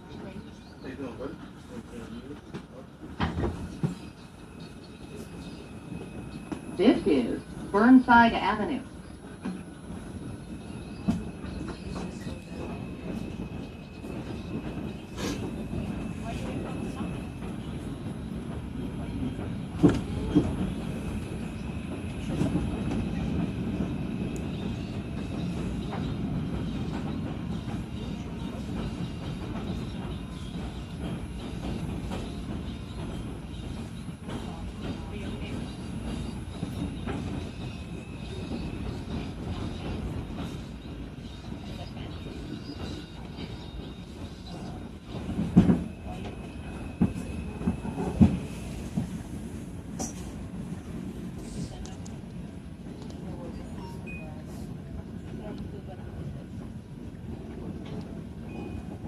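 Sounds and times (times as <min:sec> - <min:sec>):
subway car low rumble: 0:00.0 - 0:59.0.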